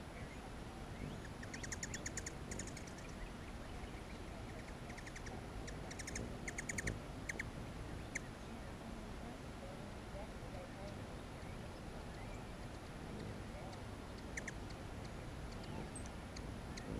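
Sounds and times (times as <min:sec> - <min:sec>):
hummingbird chattering: 0:00.2 - 0:16.9.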